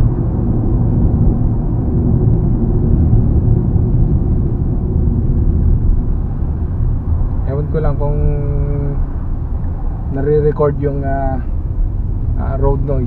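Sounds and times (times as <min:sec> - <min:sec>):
tyres rumbling on asphalt: 0:00.0 - 0:13.0.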